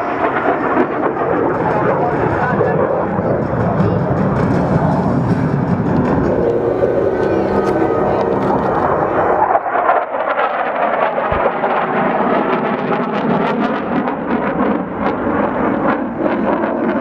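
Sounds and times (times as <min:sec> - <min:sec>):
jet fighter passing low: 0:00.0 - 0:17.0.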